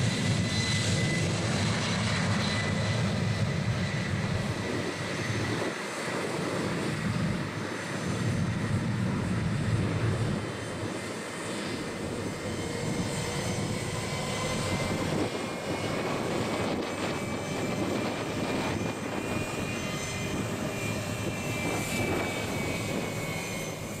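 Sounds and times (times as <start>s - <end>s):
jet engines roaring with whine: 0.0s - 24.0s.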